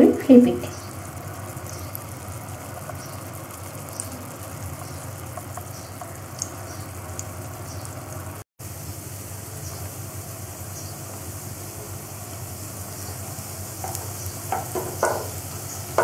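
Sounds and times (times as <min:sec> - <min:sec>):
patties sizzling in hot oil: 0:00.0 - 0:16.0.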